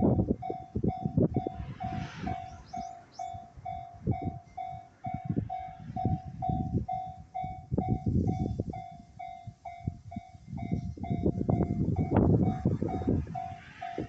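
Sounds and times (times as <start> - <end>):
level-crossing warning bell: 0.0 - 14.0.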